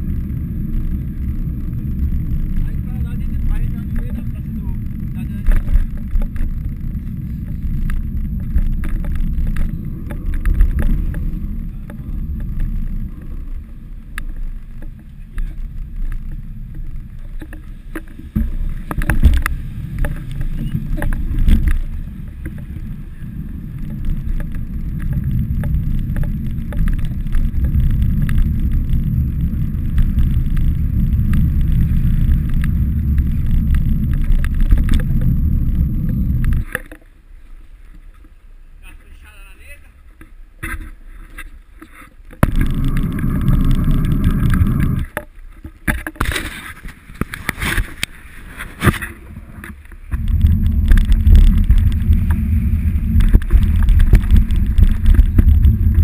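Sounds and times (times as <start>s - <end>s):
wind buffeting microphone: 0.0s - 36.8s, 42.4s - 45.2s, 45.9s - 56.0s.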